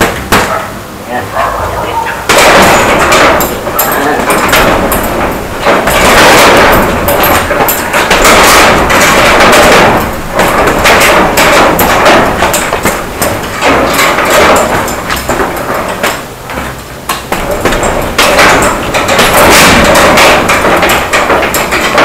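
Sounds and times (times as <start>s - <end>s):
gloves punching heavy bag: 0.0s - 0.6s, 2.3s - 22.0s.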